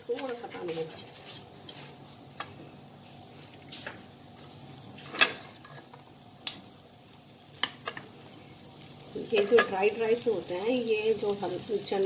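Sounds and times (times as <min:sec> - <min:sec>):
faint steady hum: 0:01.5 - 0:12.0.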